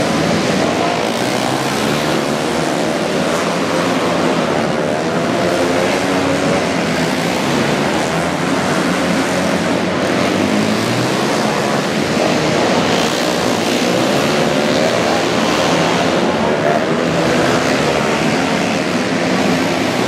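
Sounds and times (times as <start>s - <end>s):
racing motorcycle engines: 0.0s - 20.0s.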